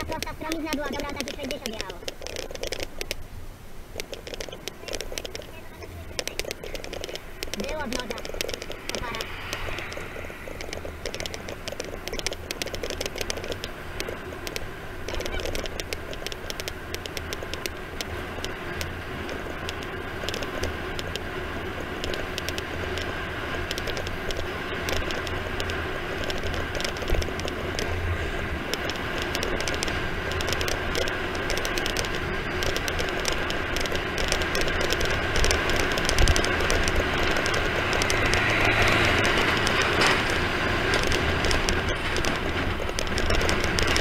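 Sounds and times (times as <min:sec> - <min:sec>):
fine rattling clicks: 0:00.0 - 0:03.2, 0:03.9 - 0:28.0, 0:28.6 - 0:44.0
wind rushing over microphone: 0:00.0 - 0:44.0
tyre noise: 0:03.9 - 0:44.0.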